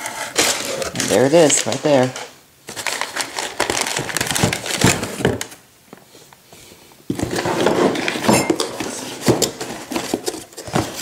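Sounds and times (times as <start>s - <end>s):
cardboard and paper rustling: 0.0s - 5.6s, 7.1s - 11.0s.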